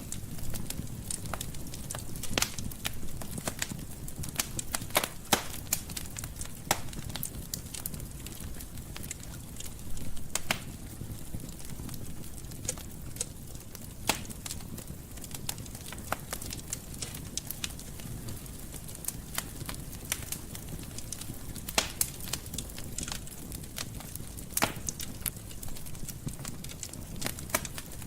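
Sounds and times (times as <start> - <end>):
fire crackling and popping: 0.0 - 28.0
fire flames rumbling: 0.0 - 28.0.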